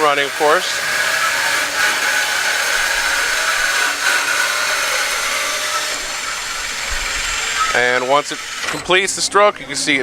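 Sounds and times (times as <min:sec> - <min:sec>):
bandsaw cutting metal: 0:00.0 - 0:10.0.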